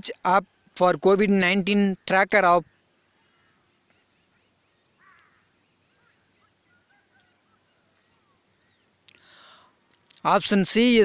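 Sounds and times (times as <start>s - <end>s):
faint bird chirps: 0.0s - 10.2s.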